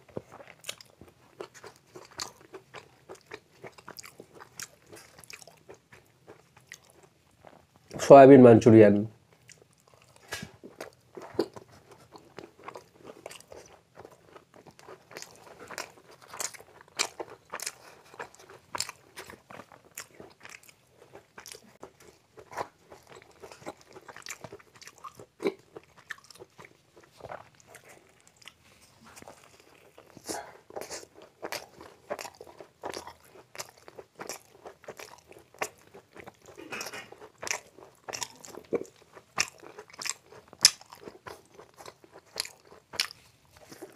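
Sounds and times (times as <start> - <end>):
chewing and crunching food: 0.0 - 8.2, 9.2 - 43.9.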